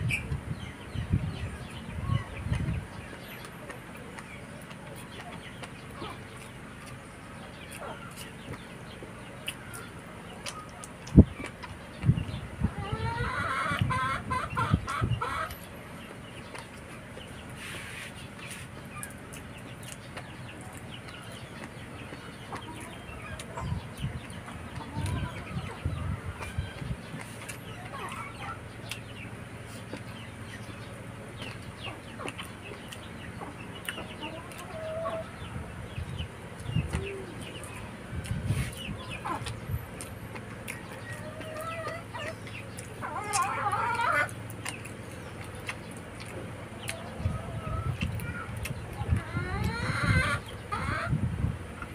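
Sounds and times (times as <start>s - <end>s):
chickens clucking: 0.0s - 51.9s
chewing: 2.4s - 12.4s, 14.9s - 35.5s, 36.5s - 49.8s.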